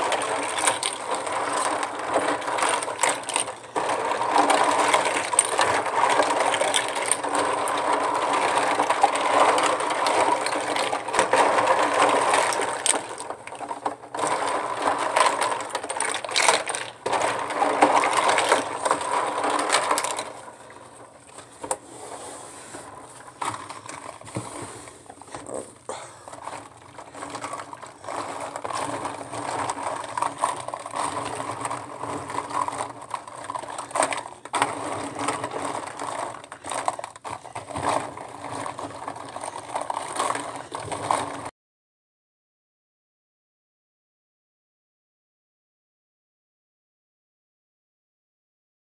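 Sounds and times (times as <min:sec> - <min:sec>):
plastic tubes clattering in water: 0:00.0 - 0:21.9, 0:22.7 - 0:41.5.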